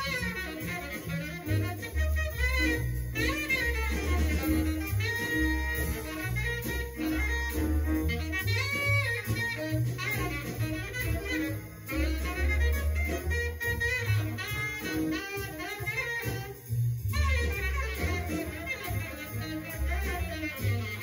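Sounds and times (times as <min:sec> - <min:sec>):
saxophone solo: 0:00.0 - 0:21.0
walking double bass: 0:00.0 - 0:21.0.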